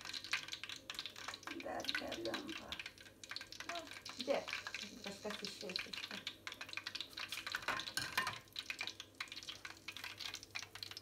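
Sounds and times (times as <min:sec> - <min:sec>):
batter frying in hot fat: 0:00.0 - 0:11.0.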